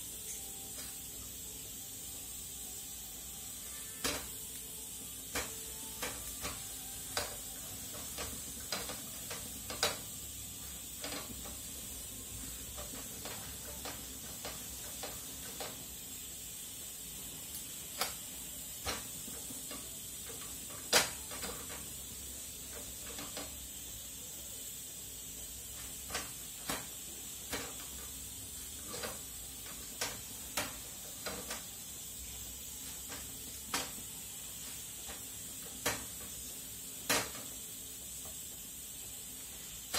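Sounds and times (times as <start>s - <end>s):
flatbread sizzling in a pan: 0.0s - 39.9s.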